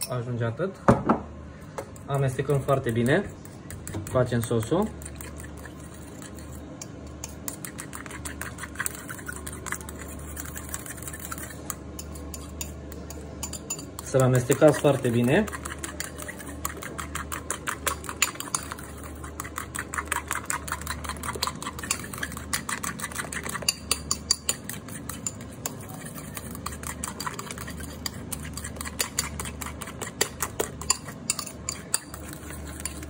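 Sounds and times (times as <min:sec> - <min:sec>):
fork beating eggs in bowl: 0:01.8 - 0:33.0.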